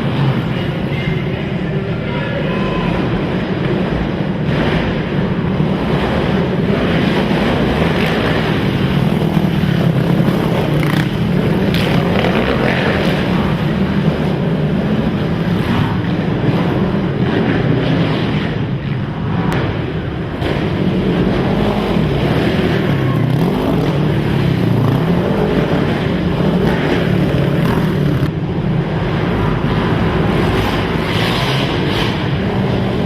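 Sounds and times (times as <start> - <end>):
quad engines running: 0.0 - 33.0.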